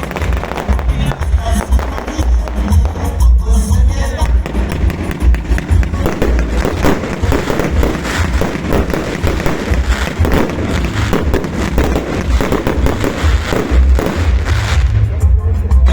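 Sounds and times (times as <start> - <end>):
fireworks crackling and popping: 0.0 - 15.3.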